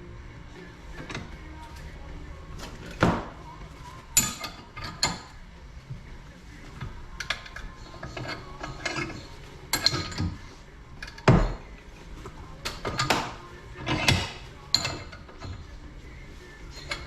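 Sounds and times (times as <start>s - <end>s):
hand tools and metal parts clanking: 0.8s - 5.6s, 6.4s - 17.0s.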